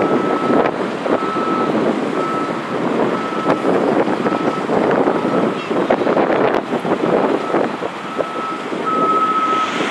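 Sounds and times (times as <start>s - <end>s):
jet engines roaring: 0.0s - 9.9s.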